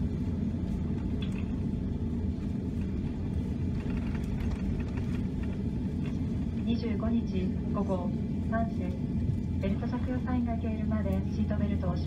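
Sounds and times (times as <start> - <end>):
airplane cabin rumble on landing: 0.0 - 12.0.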